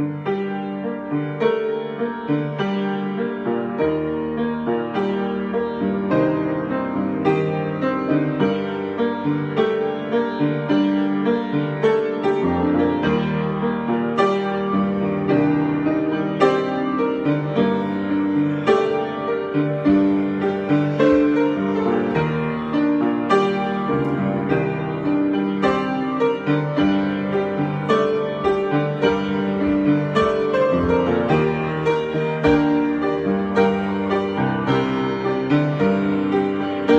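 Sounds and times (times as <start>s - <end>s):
solo piano improvisation: 0.0s - 36.9s.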